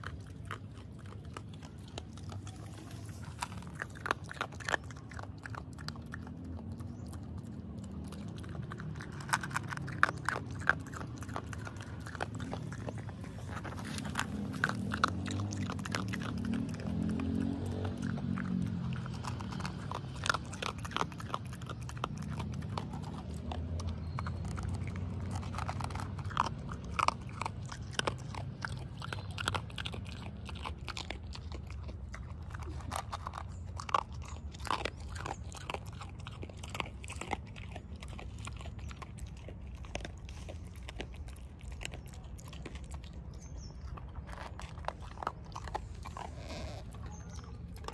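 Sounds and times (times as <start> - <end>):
dog crunching dry kibble: 0.0 - 47.9.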